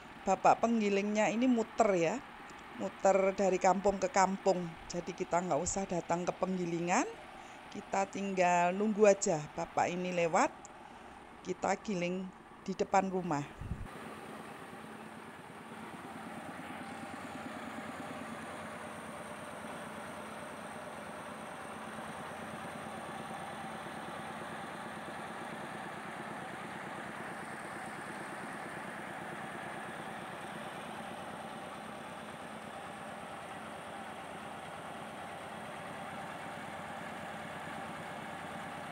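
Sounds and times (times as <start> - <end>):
rice mill engine drone: 0.0 - 13.0, 13.6 - 38.9.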